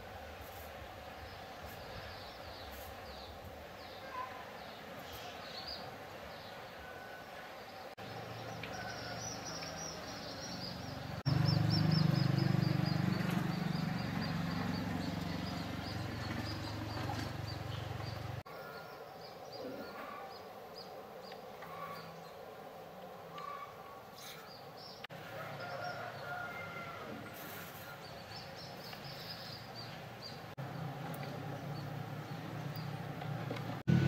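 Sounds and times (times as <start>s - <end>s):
birds chirping: 1.0s - 34.0s.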